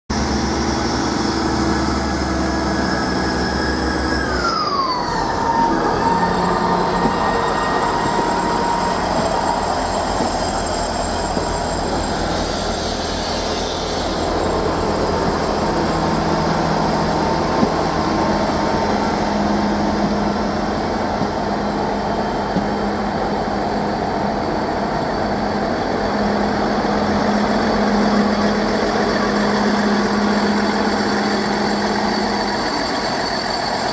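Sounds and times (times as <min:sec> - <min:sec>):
diesel trains passing: 0:00.1 - 0:33.9
falling whine: 0:00.1 - 0:33.9.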